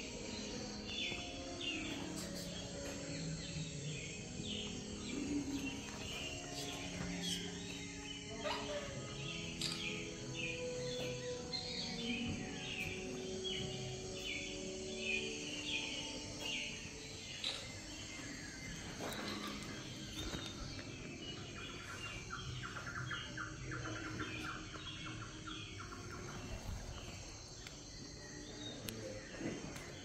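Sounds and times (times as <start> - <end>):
birds chirping and calling: 0.0 - 30.0.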